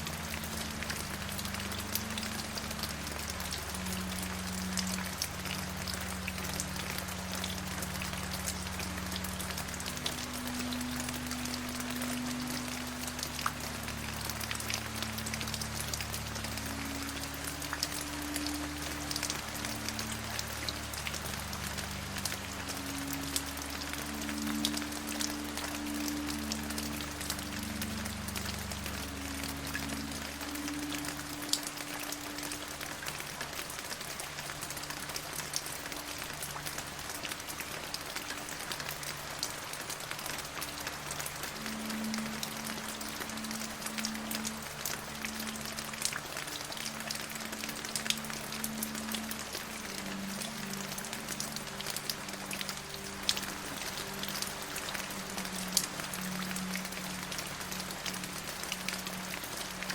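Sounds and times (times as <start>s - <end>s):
raindrops ticking: 0.0s - 59.9s
steady rain: 0.0s - 59.9s.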